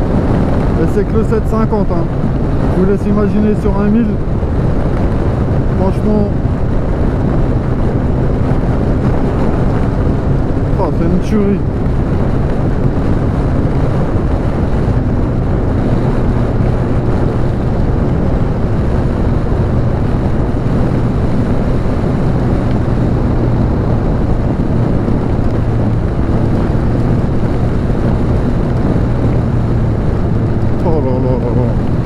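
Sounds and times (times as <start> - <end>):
motorcycle engine running: 0.0 - 32.0
wind noise on microphone: 0.0 - 32.0.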